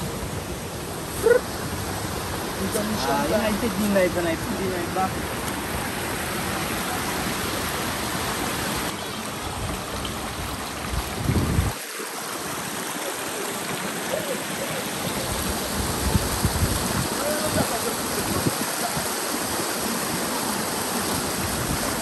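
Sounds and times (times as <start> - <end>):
stream flowing over stones: 0.0 - 22.0.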